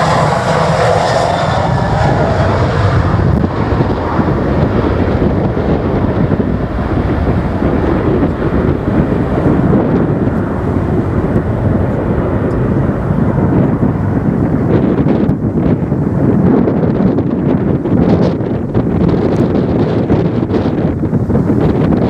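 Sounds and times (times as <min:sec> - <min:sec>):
airliner engine roar: 0:00.0 - 0:22.0
wind buffeting microphone: 0:00.0 - 0:22.0.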